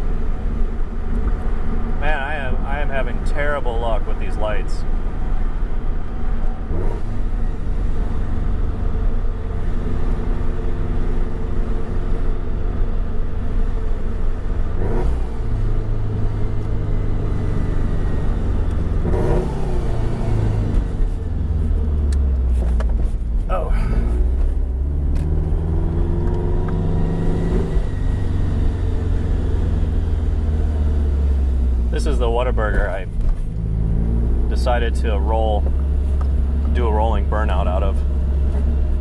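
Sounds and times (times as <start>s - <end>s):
car engine rumble with loud exhaust: 0.0s - 39.0s.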